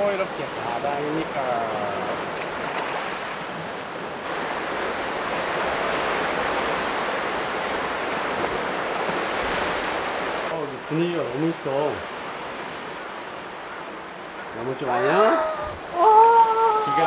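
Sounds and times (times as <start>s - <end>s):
waves breaking over rocks: 0.0s - 17.0s.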